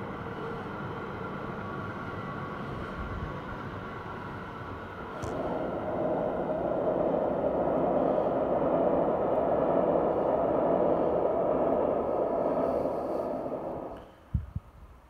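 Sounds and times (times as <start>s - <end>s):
train running through snow: 0.0s - 14.3s.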